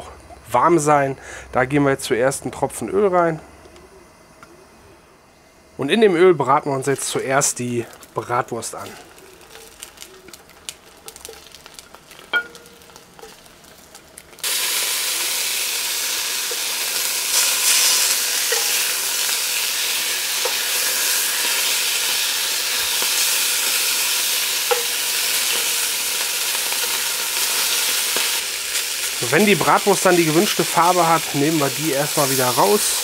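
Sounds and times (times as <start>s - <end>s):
sausage sizzling in hot oil: 5.8s - 33.0s.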